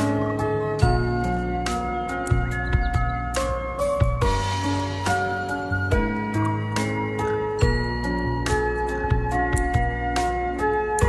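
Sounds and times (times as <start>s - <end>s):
gentle melodic background music: 0.0s - 11.0s.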